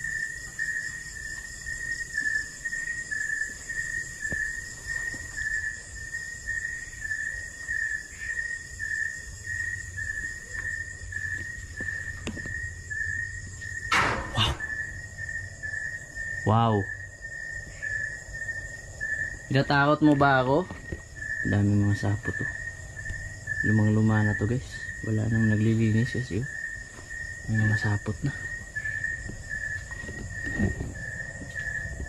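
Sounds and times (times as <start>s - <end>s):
high insect buzz: 0.0s - 32.0s
insects chirping: 0.0s - 32.0s.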